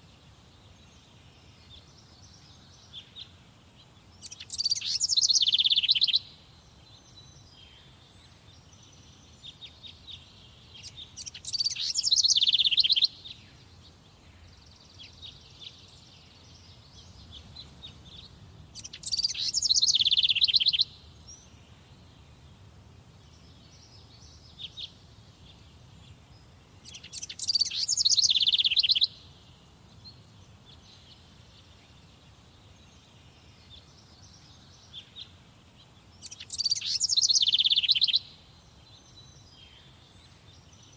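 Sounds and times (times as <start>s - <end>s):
faint bird chirps: 0.0s - 40.9s
songbird singing rapid falling song: 0.0s - 40.9s.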